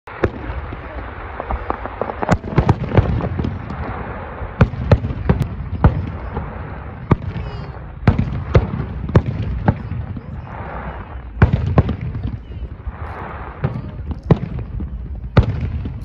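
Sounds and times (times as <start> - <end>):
fireworks bangs: 0.1 - 16.0.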